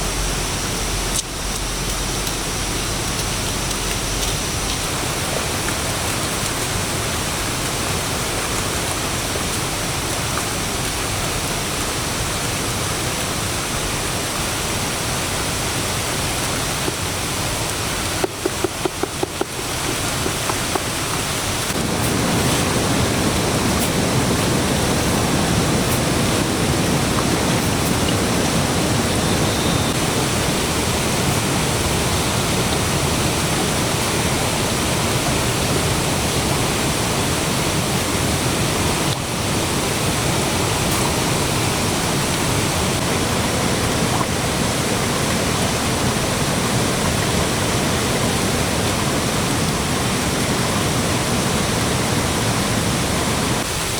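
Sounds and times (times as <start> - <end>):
rushing water: 0.0 - 53.9.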